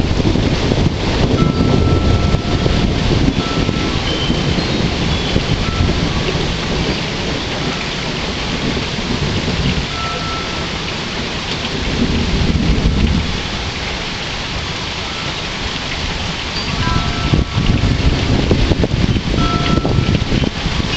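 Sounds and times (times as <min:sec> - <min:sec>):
low rolling thunder: 0:00.0 - 0:20.9
steady rain: 0:00.0 - 0:20.9.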